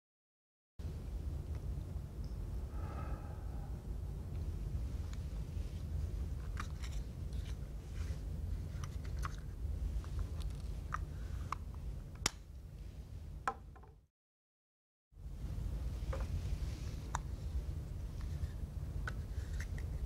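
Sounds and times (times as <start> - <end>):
low room hum: 0.8 - 14.0, 15.2 - 20.0.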